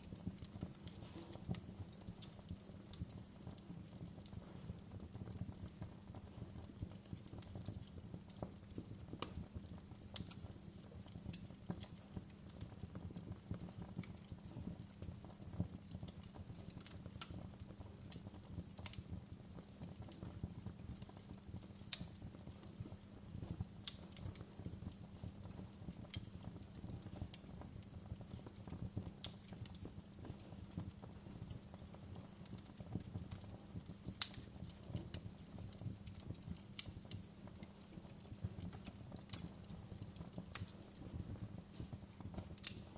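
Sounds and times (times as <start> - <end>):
fire crackling and popping: 0.0 - 42.9
fire rumbling: 0.0 - 42.9.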